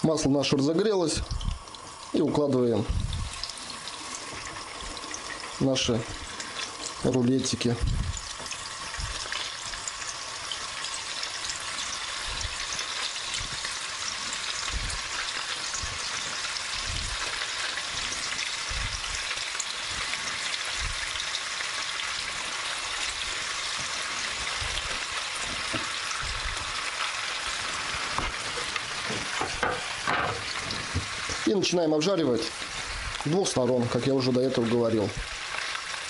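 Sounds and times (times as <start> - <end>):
meat sizzling in a frying pan: 0.0 - 36.0.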